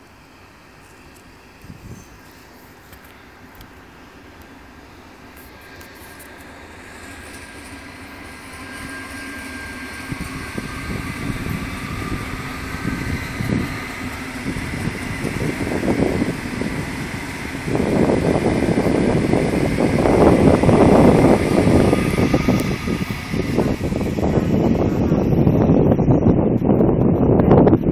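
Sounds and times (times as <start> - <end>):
electric train passing on rails: 0.0 - 27.9.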